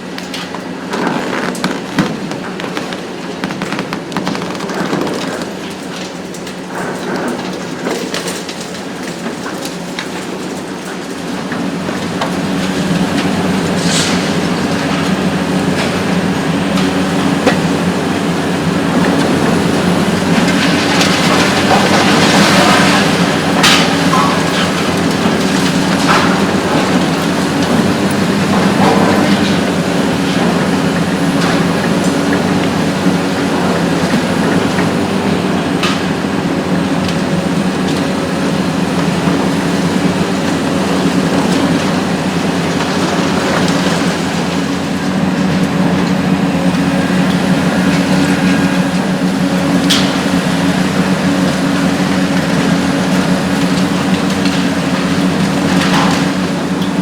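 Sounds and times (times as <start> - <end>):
demolition debris crashing: 0.0 - 57.0
excavator diesel engine running: 11.4 - 57.0.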